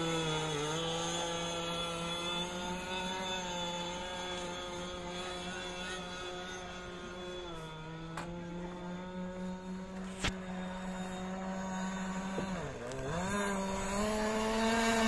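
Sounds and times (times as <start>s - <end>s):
model boat engine buzzing: 0.0s - 15.0s.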